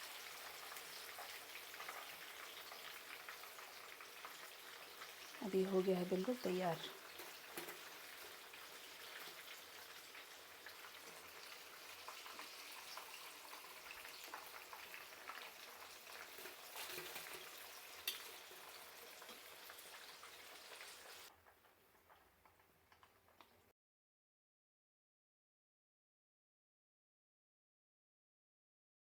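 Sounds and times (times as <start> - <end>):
hot oil sizzling and popping: 0.0 - 23.7.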